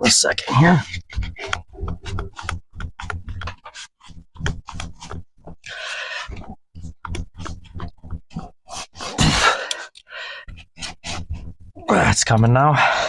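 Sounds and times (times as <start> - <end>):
rasping: 0.0 - 13.0.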